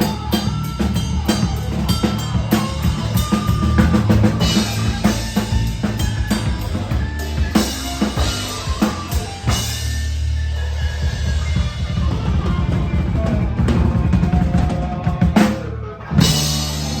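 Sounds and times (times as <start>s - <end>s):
live band playing loudly: 0.0s - 17.0s
low bass: 0.0s - 17.0s.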